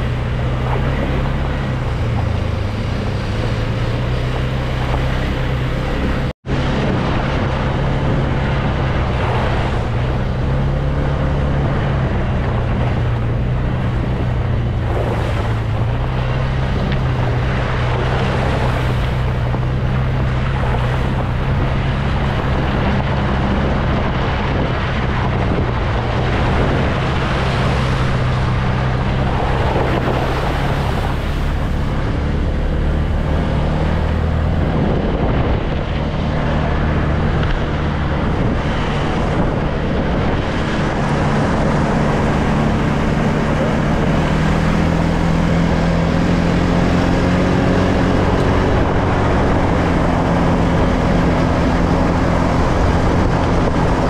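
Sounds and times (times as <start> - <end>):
atv engine running: 0.0 - 54.0
wind buffeting microphone: 0.0 - 54.0.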